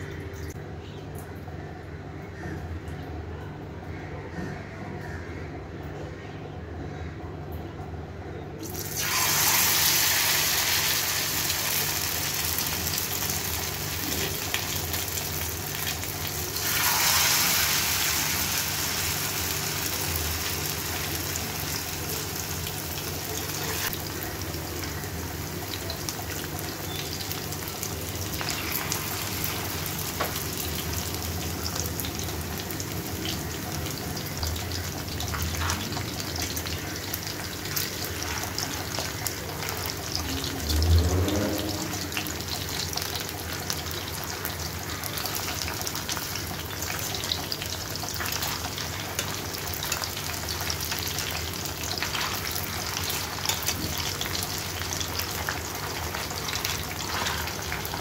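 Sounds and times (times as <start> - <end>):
loud burst of sizzle: 8.6 - 58.0
meat sizzling in frying pan: 8.7 - 58.0.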